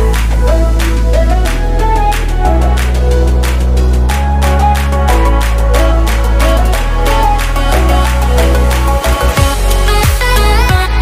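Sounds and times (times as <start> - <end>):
electronic music with bass: 0.0 - 11.0.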